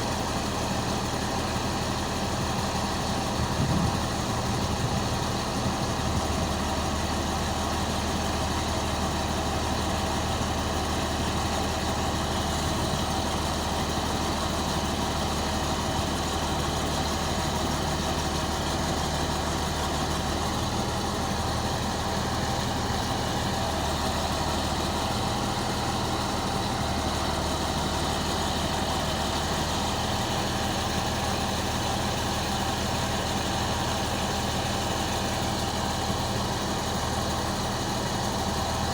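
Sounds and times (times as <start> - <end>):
machine engine idling: 0.0 - 38.9.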